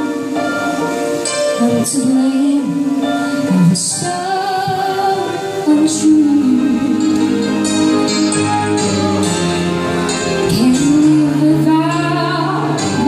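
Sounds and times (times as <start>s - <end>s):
woman singing into microphone: 0.0s - 8.2s, 10.4s - 13.0s
band accompaniment: 0.0s - 13.0s.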